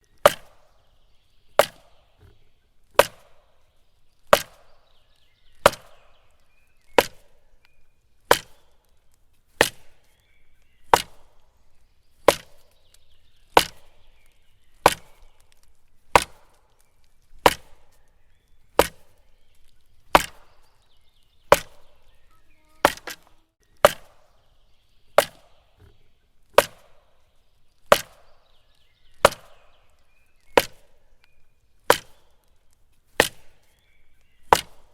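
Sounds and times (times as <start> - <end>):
axe chopping tree: 0.2 - 0.9, 1.5 - 10.2, 10.8 - 11.6, 12.2 - 18.1, 18.7 - 19.2, 20.0 - 20.8, 21.4 - 22.2, 22.8 - 34.9.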